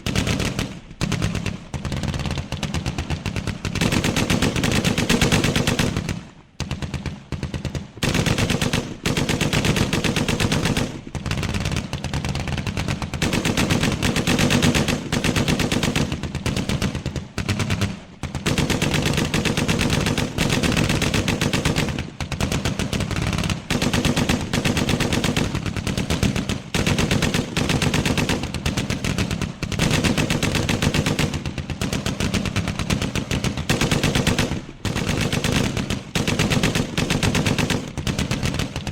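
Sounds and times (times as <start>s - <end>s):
machine guns firing rapid bursts: 0.0s - 38.9s.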